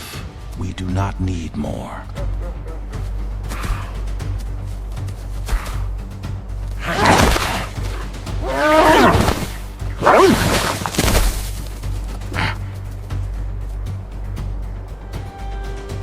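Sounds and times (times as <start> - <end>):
low steady music: 0.0 - 16.0.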